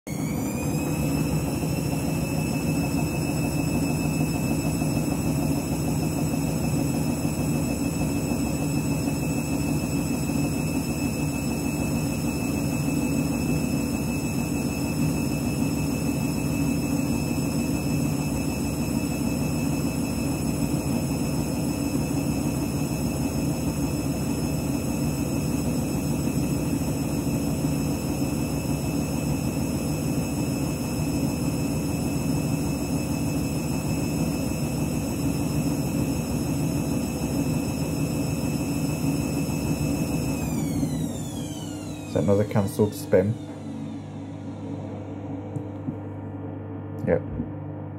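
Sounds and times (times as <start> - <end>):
washing machine drum whirring: 0.1 - 47.9.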